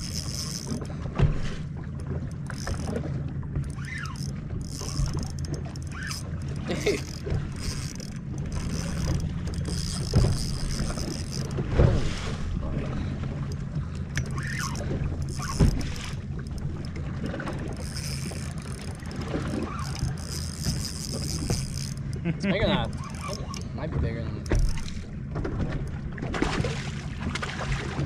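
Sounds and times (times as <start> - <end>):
boat engine low hum: 0.0 - 28.0.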